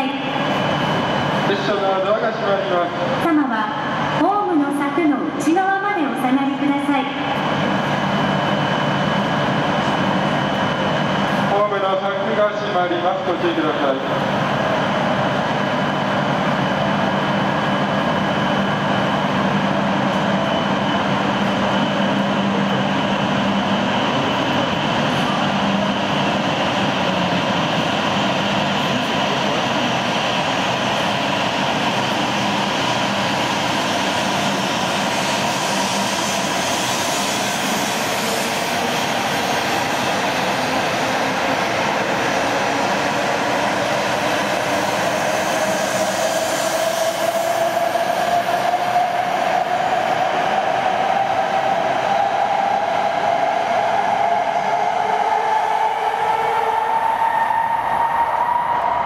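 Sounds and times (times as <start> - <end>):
train cars rushing past: 0.0 - 59.0
train electric whine rising: 7.1 - 59.0.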